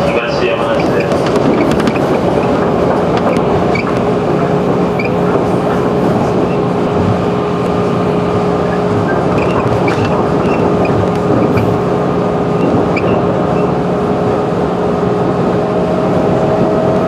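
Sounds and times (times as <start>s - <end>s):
constant whine: 0.0s - 17.0s
train wheels rumbling on rails: 0.0s - 17.0s.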